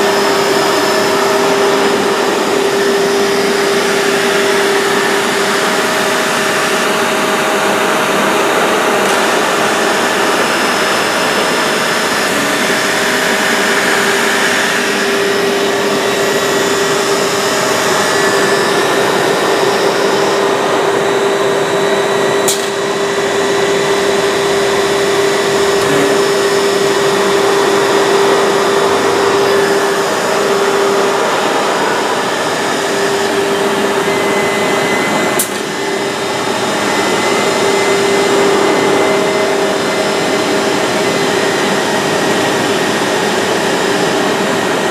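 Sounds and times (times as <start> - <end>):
woodworking machinery running: 0.0 - 44.9.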